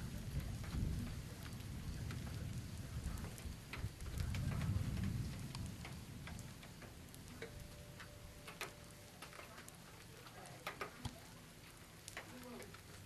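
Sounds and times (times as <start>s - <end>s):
raindrops tapping: 0.0s - 13.0s
soft hiss of rain: 0.0s - 13.0s.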